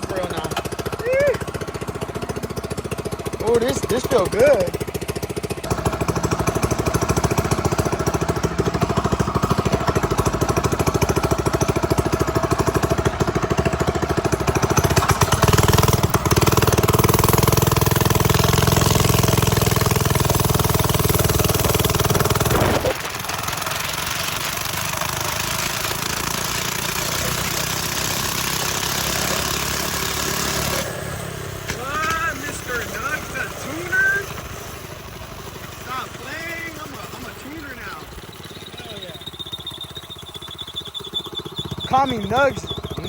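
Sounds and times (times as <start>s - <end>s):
minibike engine puttering: 0.0s - 43.0s.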